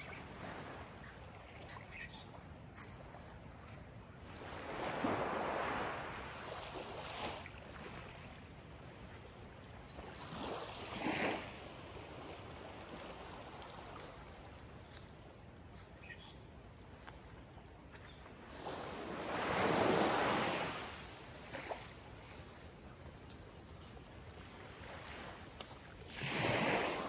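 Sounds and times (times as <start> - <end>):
small waves lapping on shore: 0.0 - 27.0.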